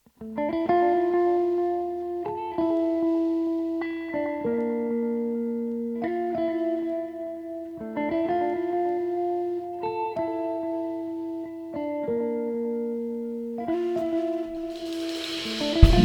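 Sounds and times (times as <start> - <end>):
guitar playing sustained chords: 0.3 - 16.0.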